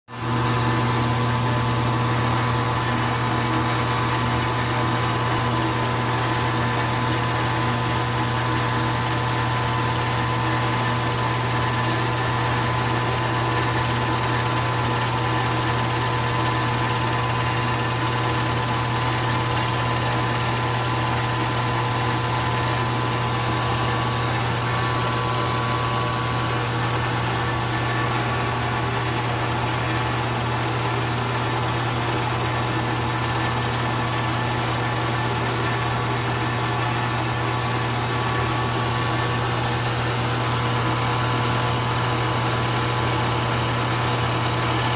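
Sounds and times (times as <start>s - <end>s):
milling machine humming: 0.2s - 44.9s.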